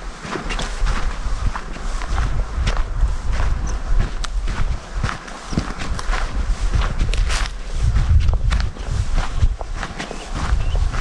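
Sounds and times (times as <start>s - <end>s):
crunching footsteps: 0.0s - 11.0s
steady low rumble: 0.0s - 11.0s.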